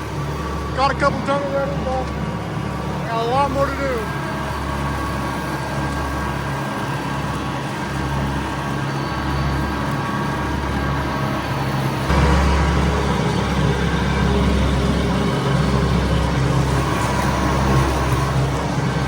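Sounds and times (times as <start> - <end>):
mower cutting grass: 0.0 - 19.0
tractor engine running: 0.0 - 19.0.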